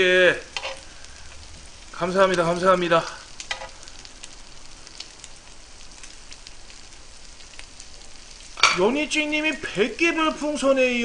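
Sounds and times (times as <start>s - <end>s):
fat crackling and popping: 0.0s - 11.0s
meat sizzling on a griddle: 0.0s - 11.0s.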